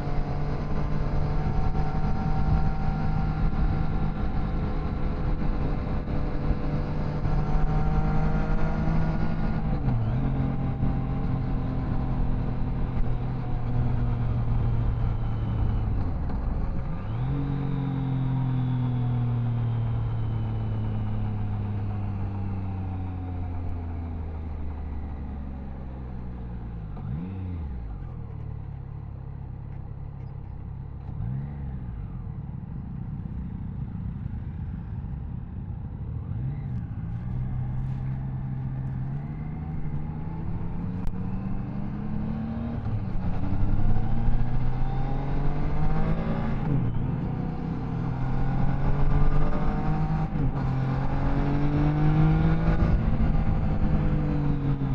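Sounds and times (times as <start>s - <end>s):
motorcycle engine revving: 0.0s - 29.2s, 36.1s - 54.9s.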